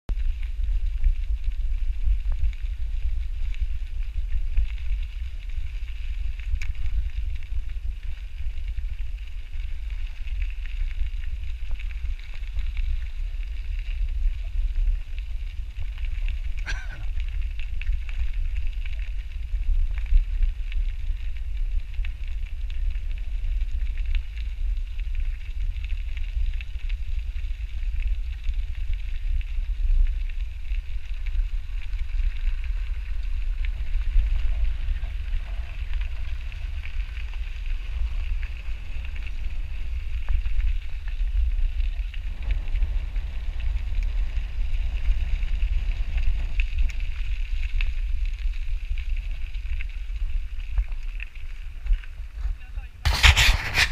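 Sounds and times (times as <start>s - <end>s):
tyres crackling on gravel: 0.1s - 53.9s
wind buffeting microphone: 0.1s - 53.9s.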